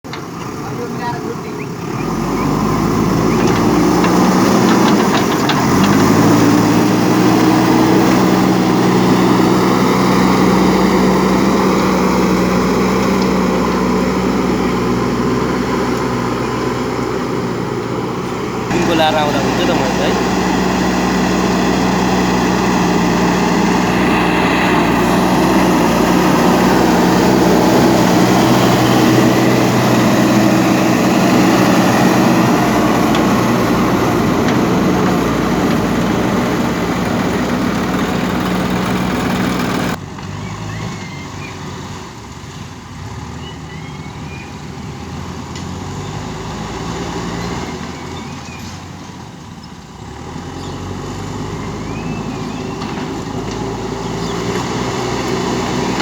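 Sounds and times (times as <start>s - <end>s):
diesel engine running: 0.0s - 40.5s, 50.0s - 56.0s.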